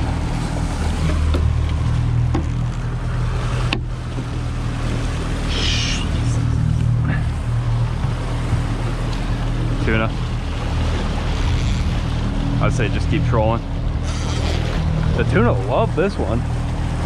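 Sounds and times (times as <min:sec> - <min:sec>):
outboard motor humming: 0:00.0 - 0:17.0
wind and water hissing: 0:00.0 - 0:17.0.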